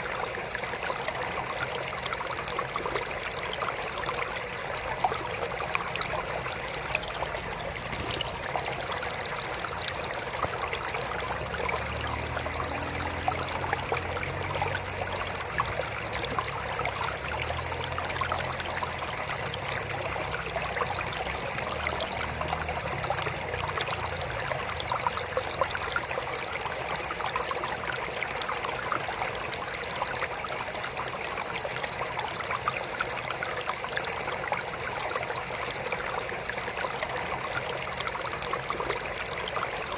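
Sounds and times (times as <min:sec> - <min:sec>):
water trickling into aquarium: 0:00.0 - 0:39.9.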